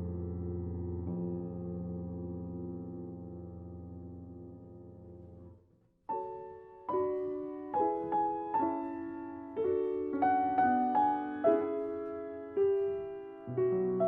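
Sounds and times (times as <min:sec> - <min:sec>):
slow gentle piano piece: 0:00.0 - 0:14.0.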